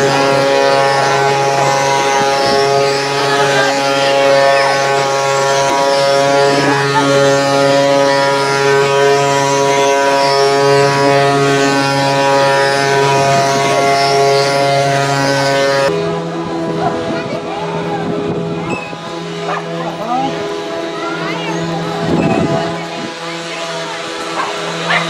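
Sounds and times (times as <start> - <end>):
wooden axle droning whine: 0.0 - 25.0.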